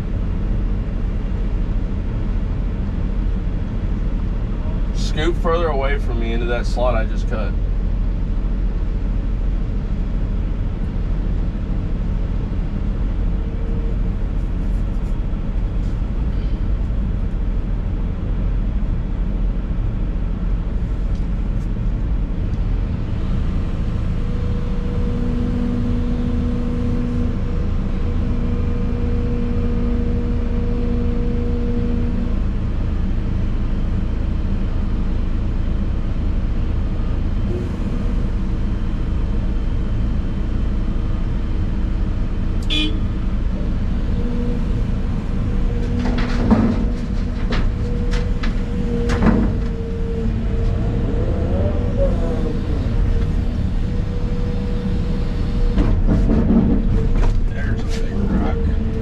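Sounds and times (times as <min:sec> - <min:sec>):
excavator diesel engine running: 0:00.0 - 0:59.0
steady whine: 0:09.0 - 0:59.0.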